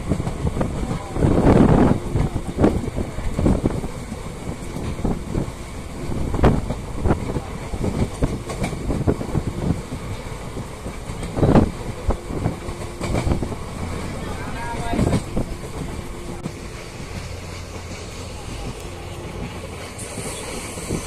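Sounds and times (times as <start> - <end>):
train rumbling on track: 0.0 - 21.0
wheels clattering over rails: 0.0 - 21.0.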